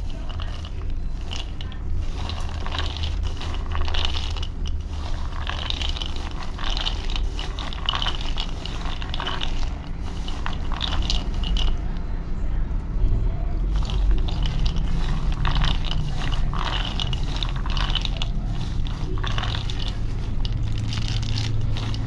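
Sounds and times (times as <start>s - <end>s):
nuts clattering in a bowl: 0.0s - 12.0s, 13.6s - 22.0s.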